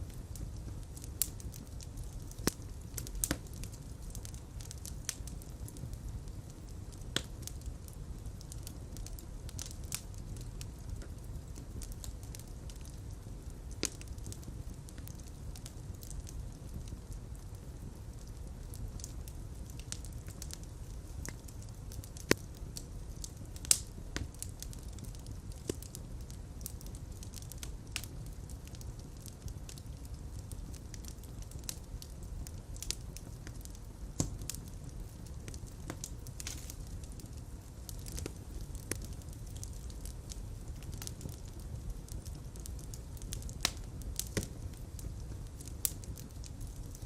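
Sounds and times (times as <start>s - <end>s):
fire crackling and popping: 0.0s - 47.0s.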